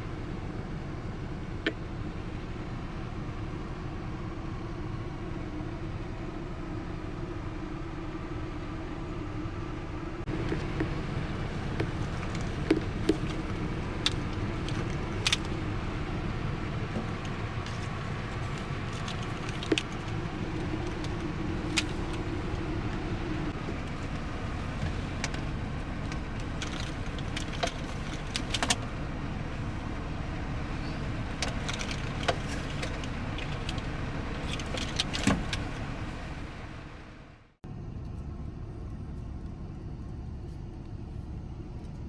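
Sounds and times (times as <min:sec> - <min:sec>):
steady low rumble: 0:00.0 - 0:37.2.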